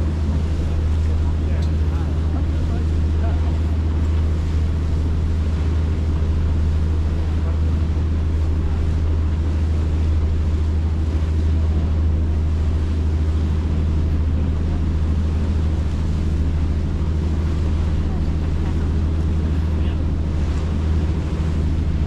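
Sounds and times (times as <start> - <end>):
boat engines droning: 0.0 - 22.0
water rushing: 0.0 - 22.0.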